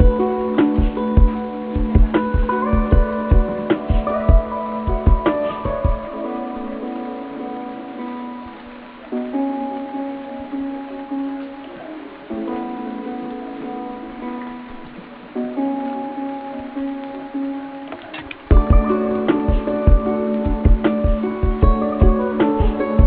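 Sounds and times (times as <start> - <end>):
soft held chords: 0.0 - 23.0.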